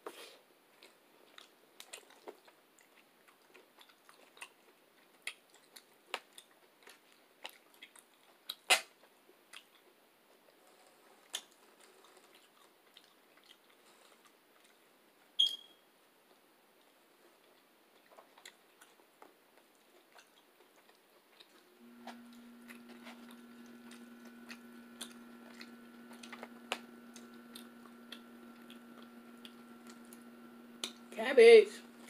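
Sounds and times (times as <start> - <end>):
chewing food: 0.7 - 10.6, 11.2 - 14.9, 16.3 - 31.1.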